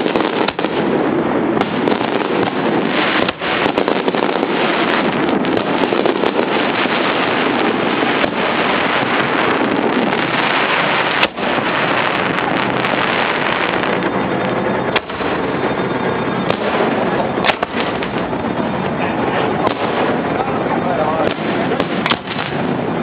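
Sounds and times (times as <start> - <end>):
fireworks crackling and rumbling: 0.0 - 23.0
sharp firework bangs: 0.0 - 23.0.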